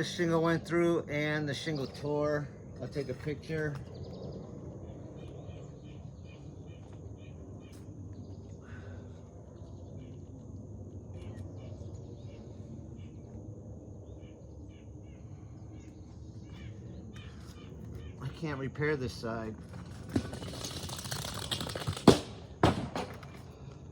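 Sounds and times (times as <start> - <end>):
low ambient rumble: 0.0 - 23.9.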